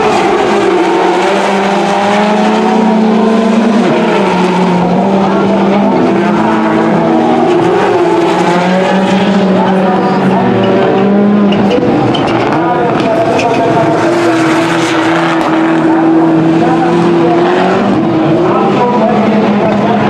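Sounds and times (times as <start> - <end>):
race car engines running hard: 0.0 - 20.0.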